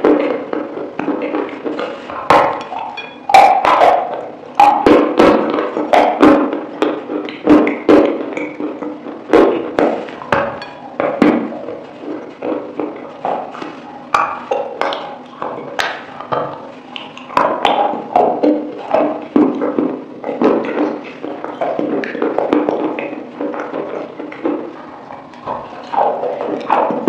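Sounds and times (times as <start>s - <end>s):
chewing chicken wings: 0.0s - 27.0s
wet mouth smacks: 0.1s - 27.0s.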